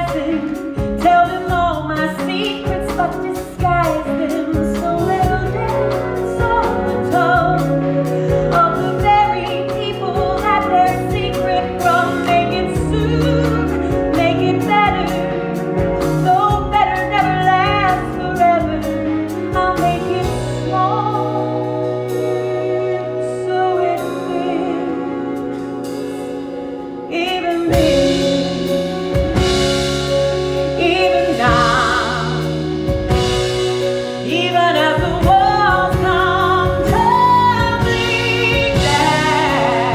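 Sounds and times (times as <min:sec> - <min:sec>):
woman singing: 0:00.0 - 0:26.1, 0:27.0 - 0:32.6, 0:34.2 - 0:39.9
band playing: 0:00.0 - 0:39.9.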